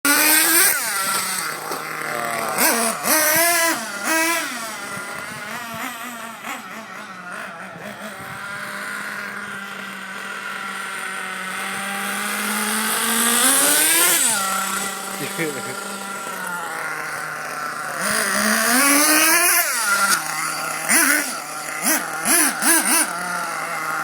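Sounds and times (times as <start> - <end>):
small gas engine revving: 0.0 - 24.0.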